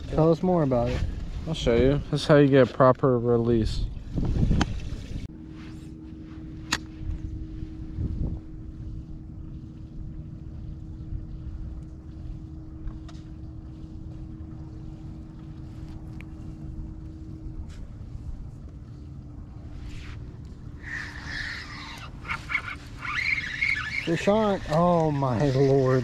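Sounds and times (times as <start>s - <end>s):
boat motor humming: 0.0s - 26.0s
wind rumbling on microphone: 0.0s - 26.0s.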